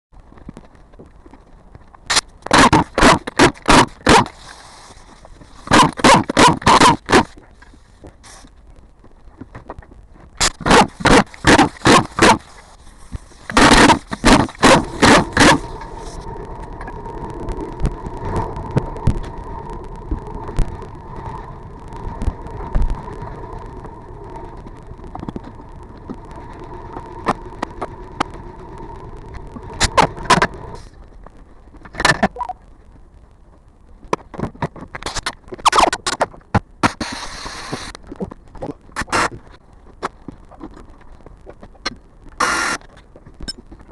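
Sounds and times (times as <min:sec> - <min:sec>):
faint whine: 0:00.2 - 0:43.9.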